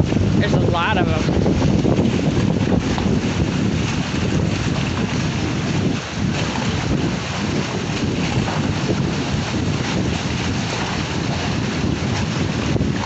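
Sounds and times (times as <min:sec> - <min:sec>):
choppy water: 0:00.0 - 0:13.0
wind buffeting microphone: 0:00.0 - 0:13.0.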